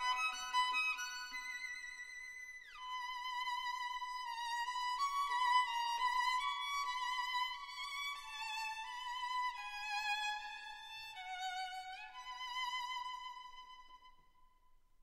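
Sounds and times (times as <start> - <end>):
violin melody with vibrato: 0.0 - 13.7.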